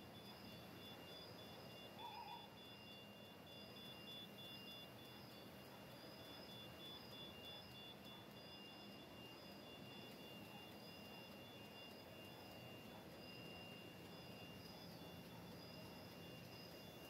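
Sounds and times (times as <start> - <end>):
pulsing high-pitched electronic tones: 0.0 - 17.0.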